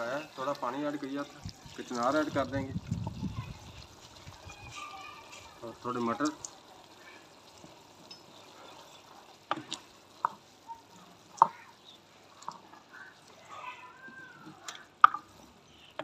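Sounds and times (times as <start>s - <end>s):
simmering hiss: 0.0s - 16.0s.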